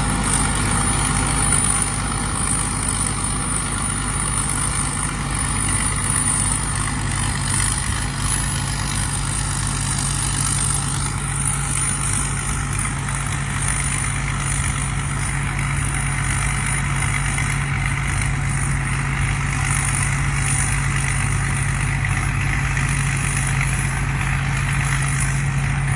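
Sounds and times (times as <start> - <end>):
combine harvester engine running: 0.0 - 25.9.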